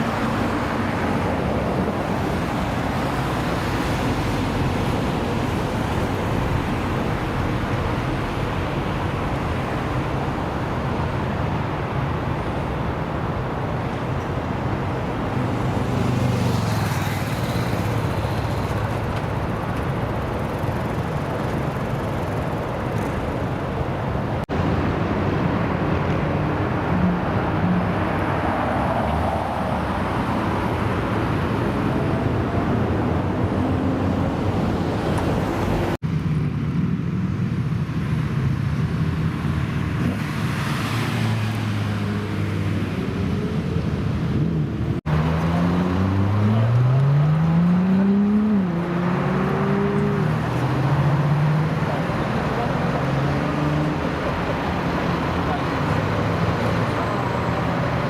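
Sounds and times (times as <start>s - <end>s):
car engines running: 0.0s - 58.0s
traffic noise: 0.0s - 58.0s.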